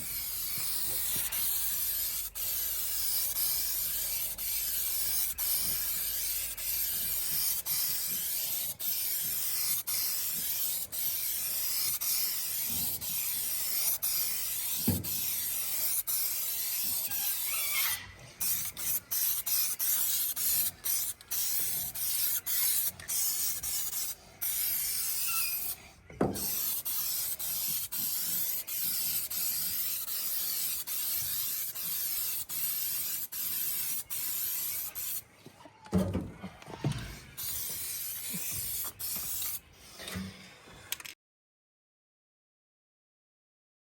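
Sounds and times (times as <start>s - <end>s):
spray paint hissing: 0.0s - 35.3s, 37.1s - 39.6s.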